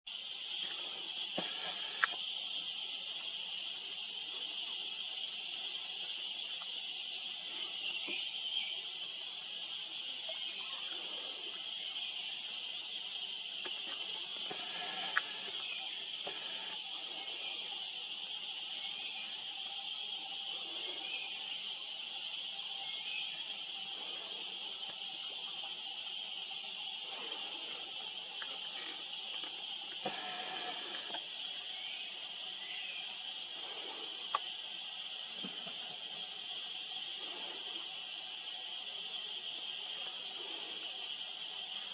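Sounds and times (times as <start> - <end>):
insects droning: 0.1 - 41.9.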